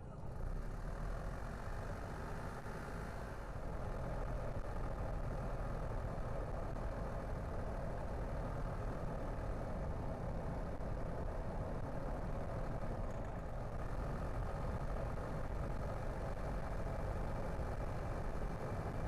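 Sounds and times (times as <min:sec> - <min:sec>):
car engine and tyre drone: 0:00.0 - 0:19.0.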